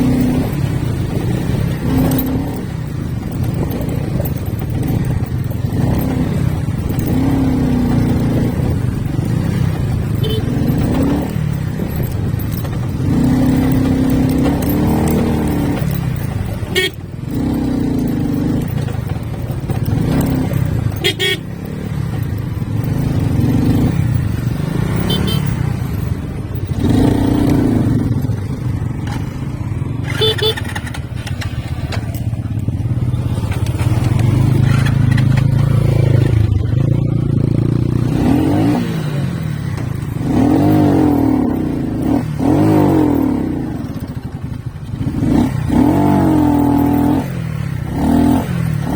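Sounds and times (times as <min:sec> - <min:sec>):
motorcycle engine revving: 0:00.0 - 0:48.9
road and wind rumble: 0:00.0 - 0:48.9.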